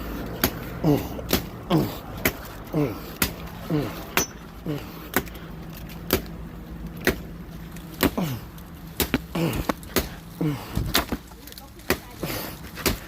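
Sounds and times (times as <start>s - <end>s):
machete chopping wood: 0.1s - 6.4s, 7.0s - 13.0s.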